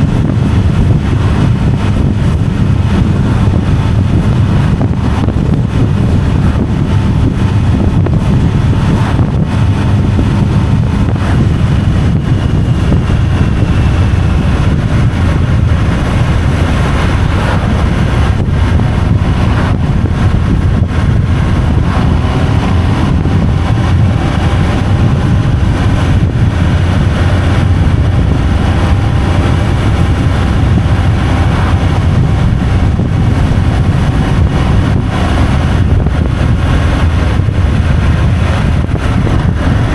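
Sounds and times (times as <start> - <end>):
road and wind noise rumble: 0.0 - 39.9.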